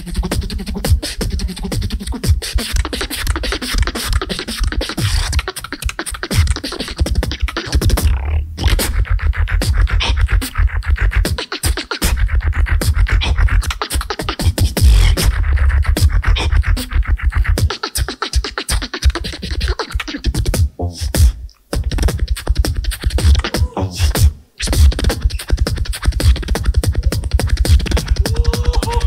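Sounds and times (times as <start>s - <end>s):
beatboxing: 0.0s - 29.0s.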